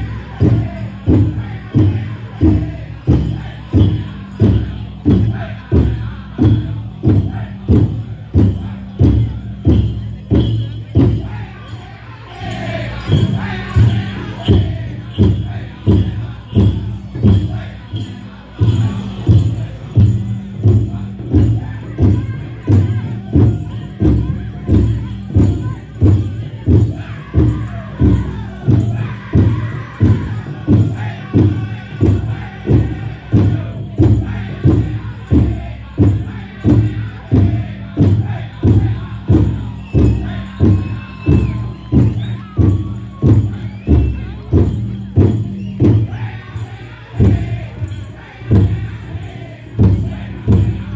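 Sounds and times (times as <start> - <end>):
big drum steady beat: 0.0 - 50.9
singers' high voices: 0.0 - 50.9.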